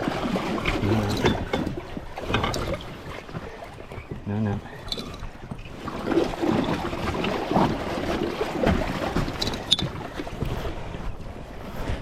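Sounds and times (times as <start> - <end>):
water splashing around raft: 0.0 - 12.0.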